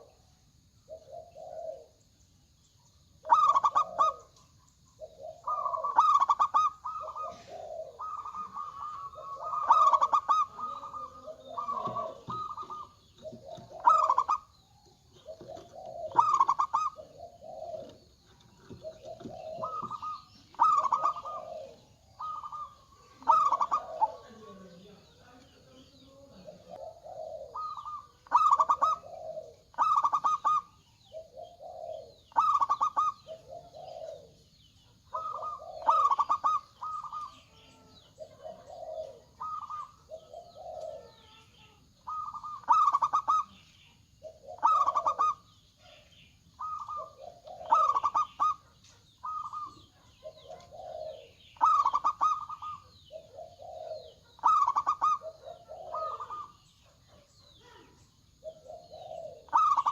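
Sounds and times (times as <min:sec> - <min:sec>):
dove cooing: 0:00.0 - 0:02.2, 0:02.8 - 0:59.9.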